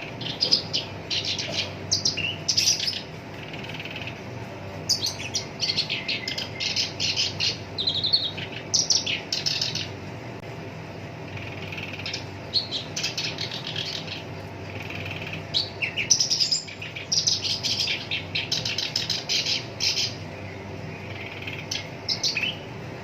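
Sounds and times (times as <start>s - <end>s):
warbler scratchy chattering song: 0.0s - 10.1s, 11.0s - 23.0s.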